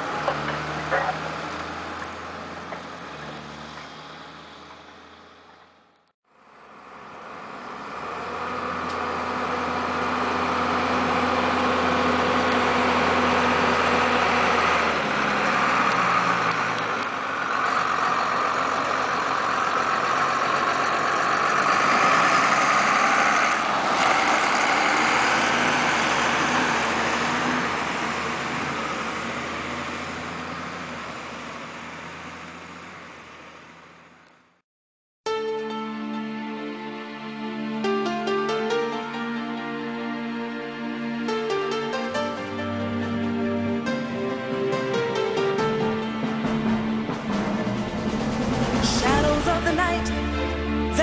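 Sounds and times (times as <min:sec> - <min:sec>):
tractor diesel engines running: 0:00.0 - 0:34.6, 0:35.5 - 0:51.0.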